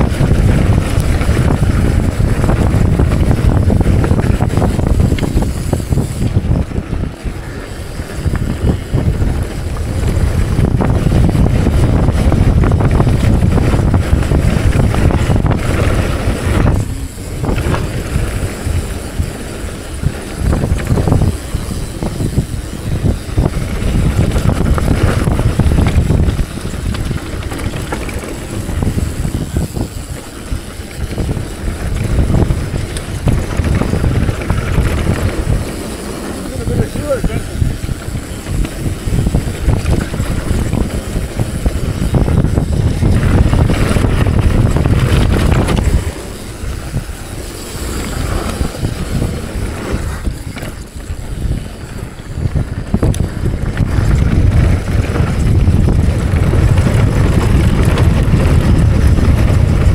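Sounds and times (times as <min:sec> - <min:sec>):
bike rattling on rough ground: 0:00.0 - 0:59.9
wind buffeting microphone: 0:00.0 - 0:59.9.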